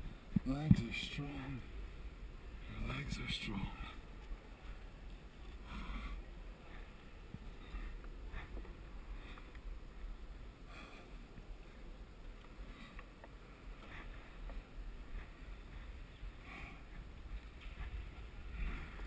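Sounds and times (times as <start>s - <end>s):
low microphone rumble and rustle: 0.0s - 19.0s
short faint breaths: 3.6s - 19.0s.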